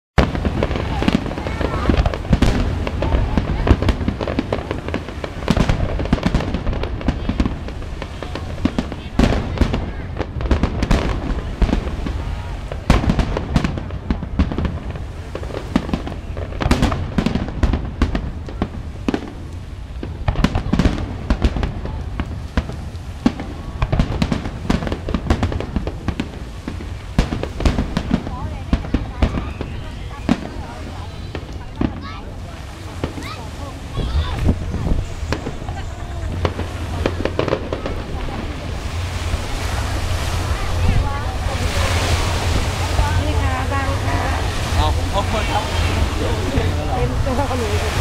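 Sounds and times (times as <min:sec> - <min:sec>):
fireworks bursting: 0:00.2 - 0:48.0.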